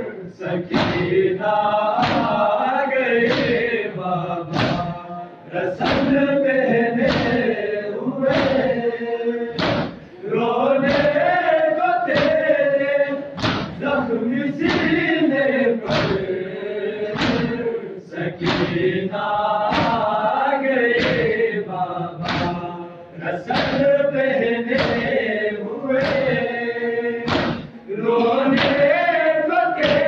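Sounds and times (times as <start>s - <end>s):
men chanting in unison: 0.0s - 30.0s.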